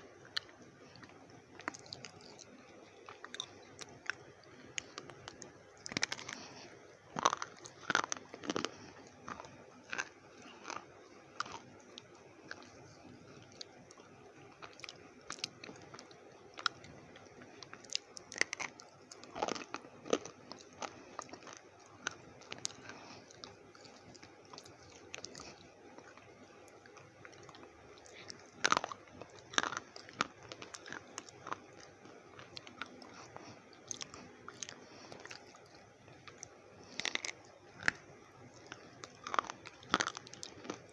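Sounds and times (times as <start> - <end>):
slate pencils crunching between teeth: 0.2 - 40.9.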